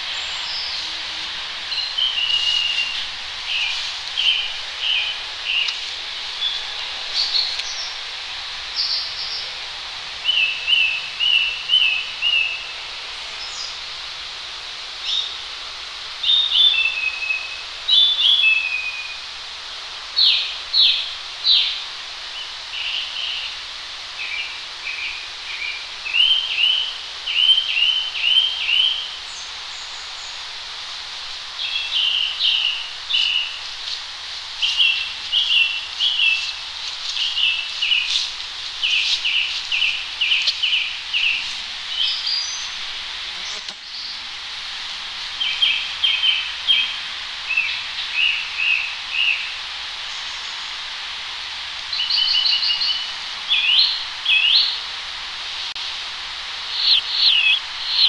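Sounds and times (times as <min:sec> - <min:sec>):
songbird singing: 0:00.0 - 0:09.6, 0:10.2 - 0:13.9, 0:15.0 - 0:15.4, 0:16.2 - 0:19.3, 0:20.2 - 0:23.6, 0:24.2 - 0:30.6, 0:31.5 - 0:44.3, 0:45.3 - 0:50.8, 0:51.9 - 0:54.9, 0:56.6 - 0:58.0
distant road traffic hiss: 0:00.0 - 0:58.0.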